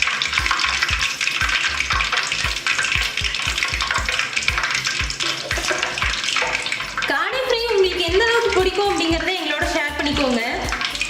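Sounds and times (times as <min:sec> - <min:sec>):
background music with low beat: 0:00.0 - 0:11.0
food sizzling in hot oil: 0:00.0 - 0:11.0.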